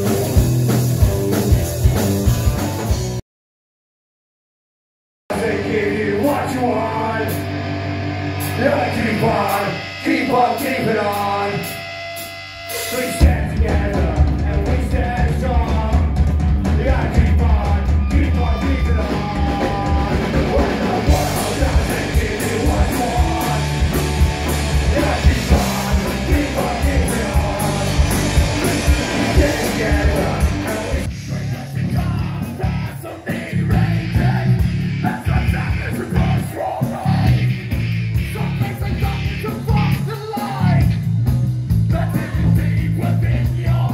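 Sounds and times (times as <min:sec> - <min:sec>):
punk rock band playing: 0:00.0 - 0:03.2, 0:05.3 - 0:43.9
sung and shouted vocals: 0:05.3 - 0:07.7, 0:08.4 - 0:11.8, 0:12.7 - 0:41.0, 0:41.9 - 0:43.9.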